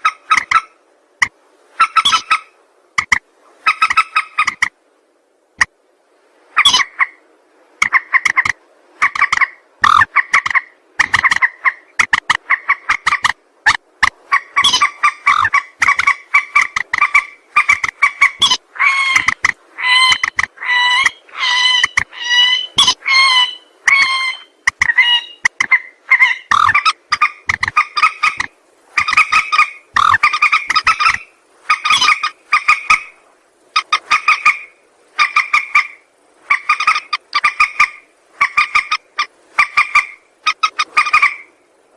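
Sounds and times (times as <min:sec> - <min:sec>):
rail bird calling: 0:00.0 - 0:04.8, 0:06.5 - 0:41.7.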